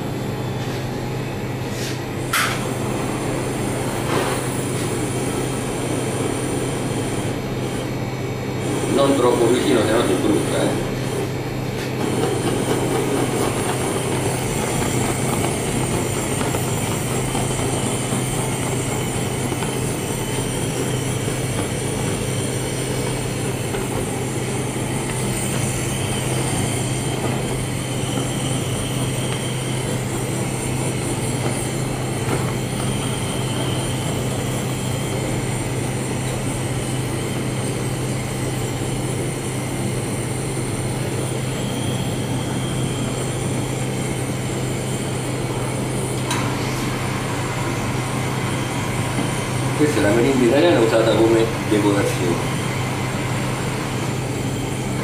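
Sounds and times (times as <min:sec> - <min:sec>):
blowtorch flame hissing: 0:00.0 - 0:55.0
steady low hum: 0:00.0 - 0:55.0.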